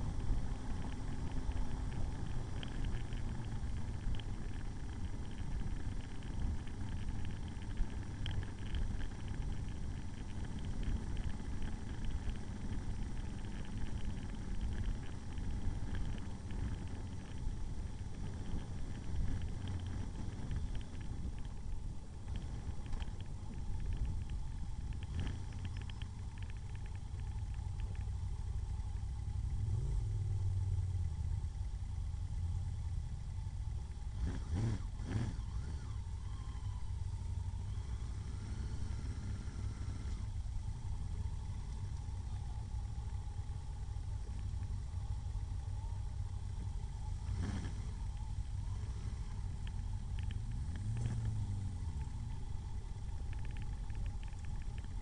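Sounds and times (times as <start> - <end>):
motorcycle engine and road rumble: 0.0 - 55.0.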